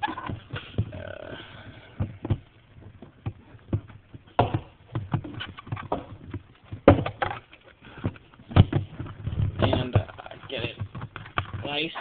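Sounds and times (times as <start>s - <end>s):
vacuum parts knocking and rattling: 0.0s - 12.0s.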